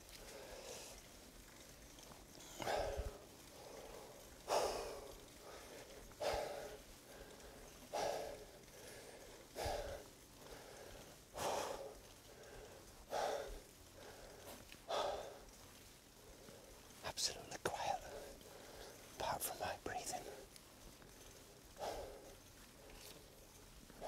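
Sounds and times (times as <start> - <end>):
heavy breathing: 2.4 - 17.0, 17.9 - 19.2, 20.2 - 24.0.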